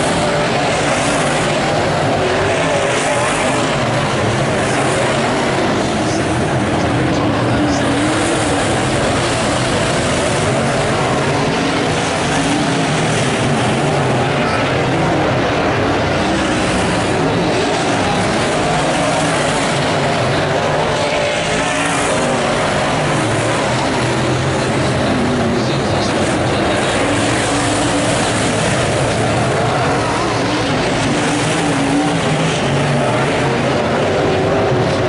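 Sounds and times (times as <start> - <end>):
race car engines droning: 0.0 - 35.0.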